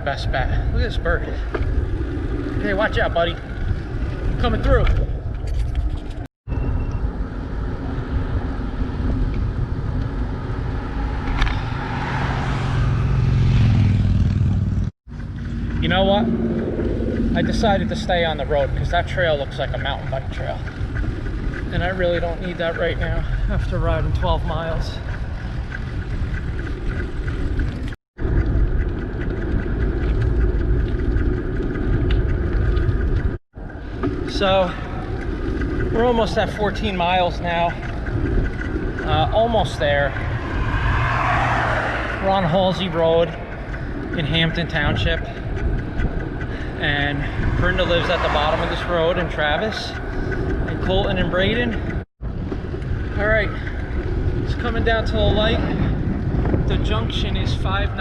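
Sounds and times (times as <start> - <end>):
motor vehicle droning: 0.0 - 58.0
traffic rush: 0.0 - 58.0.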